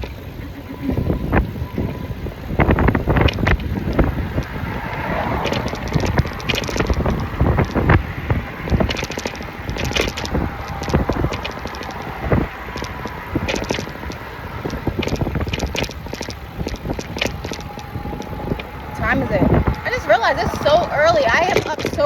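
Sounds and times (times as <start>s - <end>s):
bike rattling over pavement: 0.0s - 22.0s
wind buffeting microphone: 0.0s - 22.0s.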